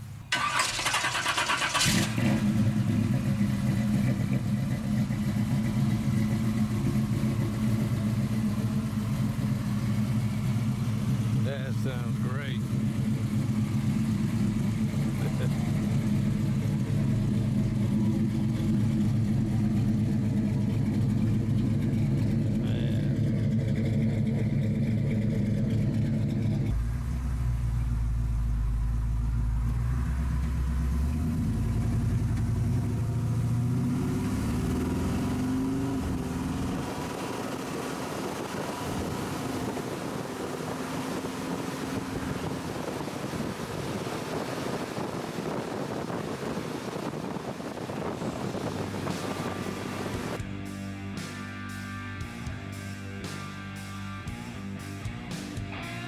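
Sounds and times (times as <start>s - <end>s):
truck engine accelerating: 0.0s - 56.0s
truck engine idling: 0.0s - 56.0s
wind and road noise: 0.0s - 56.0s.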